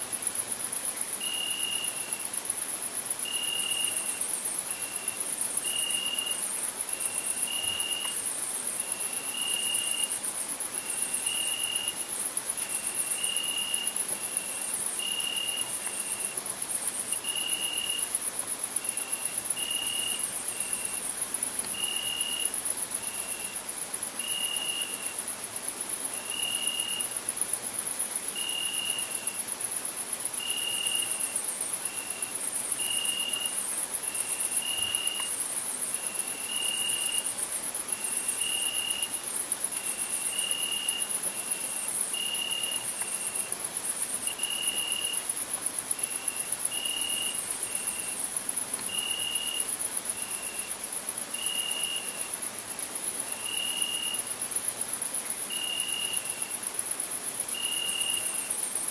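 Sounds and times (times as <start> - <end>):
lower cricket chirp: 0.0 - 58.9
crickets trilling: 0.2 - 58.9.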